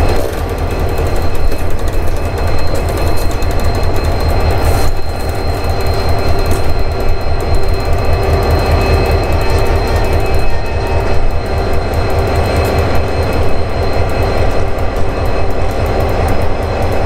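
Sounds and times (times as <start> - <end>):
locomotive engines droning: 0.0 - 17.0
steady high whine: 0.0 - 17.0
wheels clattering over rails: 0.0 - 17.0.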